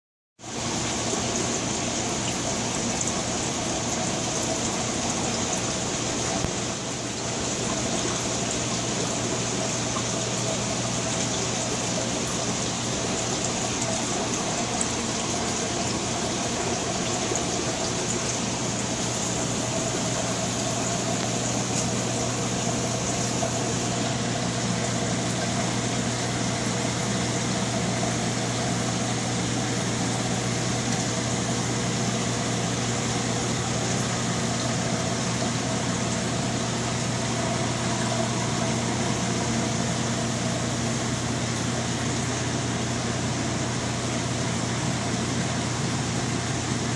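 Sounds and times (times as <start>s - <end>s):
circulating water rushing: 0.4s - 46.9s
low pump hum: 0.4s - 46.9s.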